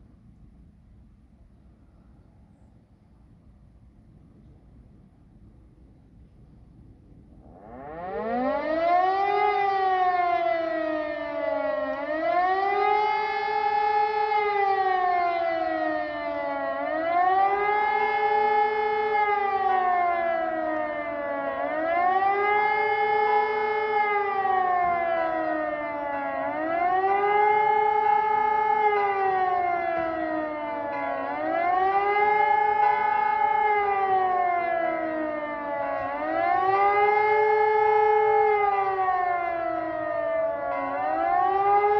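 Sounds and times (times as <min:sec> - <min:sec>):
siren wailing: 0:07.3 - 0:41.9.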